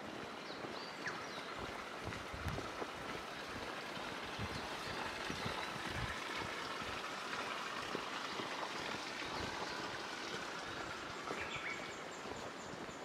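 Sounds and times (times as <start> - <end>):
footsteps on asphalt: 0.0 - 13.0
steady outdoor hiss: 0.0 - 13.0.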